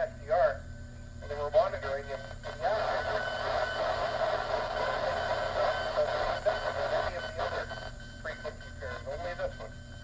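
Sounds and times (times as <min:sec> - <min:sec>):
interfering tone with static: 0:00.0 - 0:10.0.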